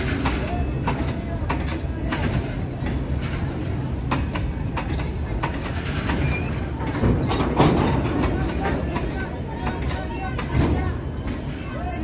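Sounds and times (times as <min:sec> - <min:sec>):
freight train wagons rumbling: 0:00.0 - 0:12.0
wheels clacking over rail joints: 0:00.0 - 0:12.0.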